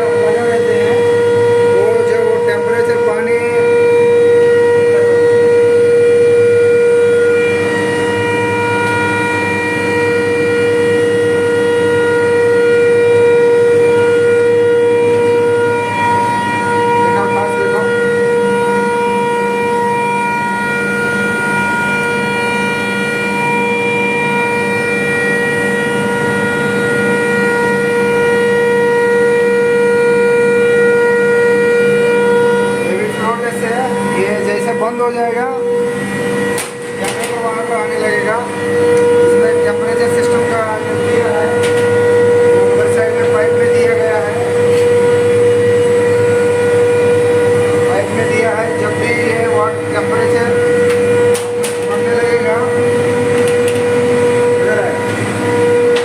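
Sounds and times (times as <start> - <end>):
high-pitched electrical whine: 0.0 - 56.0
low electrical hum: 0.0 - 56.0.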